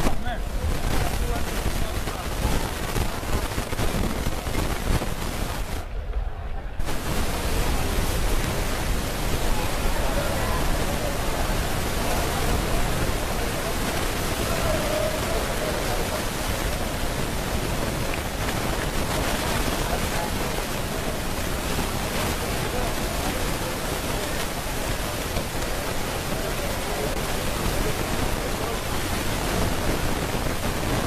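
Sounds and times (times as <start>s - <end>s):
faint voices: 0.0s - 31.0s
steady rushing noise: 0.0s - 31.0s.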